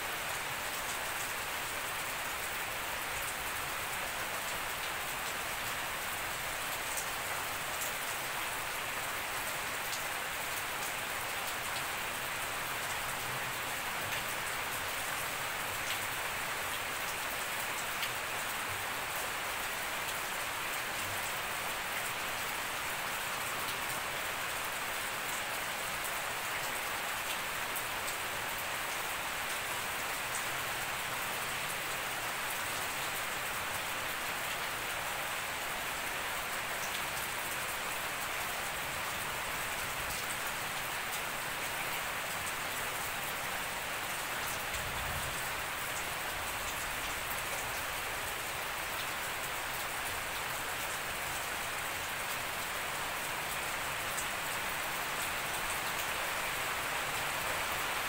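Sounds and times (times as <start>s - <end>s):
steady rain on grass: 0.0s - 58.0s.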